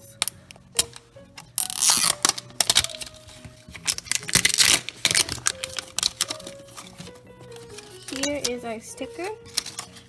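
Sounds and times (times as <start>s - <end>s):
wrapper tearing and crinkling: 0.2s - 8.5s, 9.4s - 10.0s.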